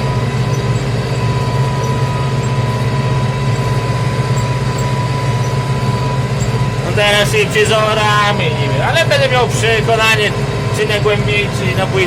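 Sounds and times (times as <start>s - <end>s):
thin steady whine: 0.0s - 12.0s
tractor diesel engine droning: 0.0s - 12.0s.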